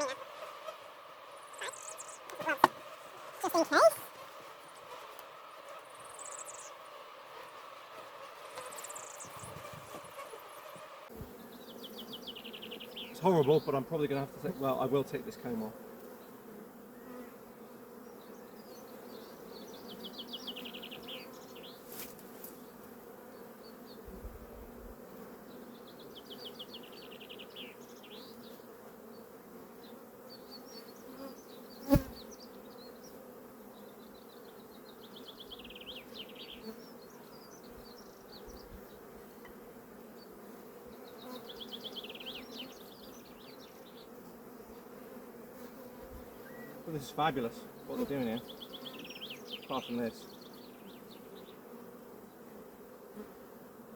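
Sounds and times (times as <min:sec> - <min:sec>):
honeybee colony buzzing: 0:00.0 - 0:53.9.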